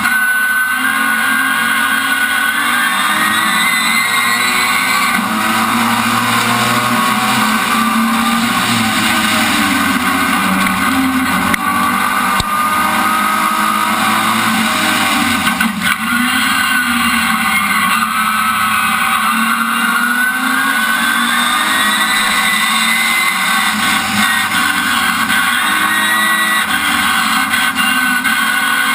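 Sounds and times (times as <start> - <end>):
racing car engine revving: 0.0 - 28.9.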